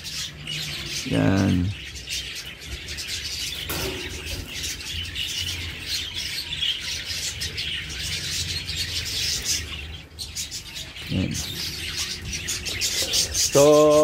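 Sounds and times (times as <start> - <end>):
budgerigars chattering: 0.0 - 14.0.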